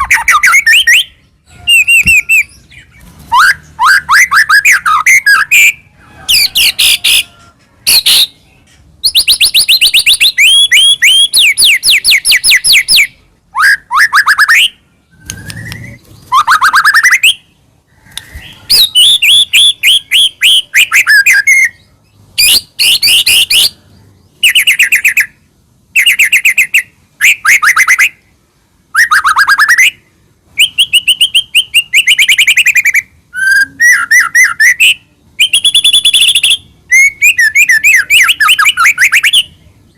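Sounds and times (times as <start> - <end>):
bird singing trills and whistles: 0.0 - 28.3, 28.9 - 30.0, 30.6 - 39.9.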